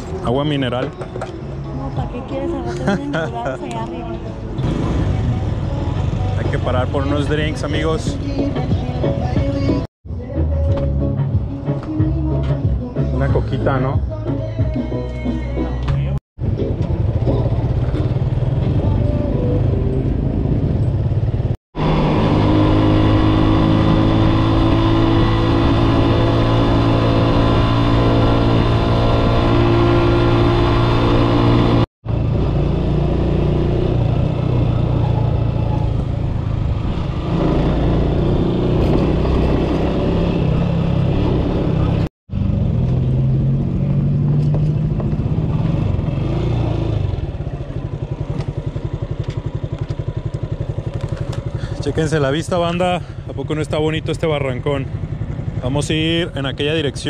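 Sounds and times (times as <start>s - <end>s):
motorcycle engine running: 4.6s - 9.8s, 16.4s - 57.0s.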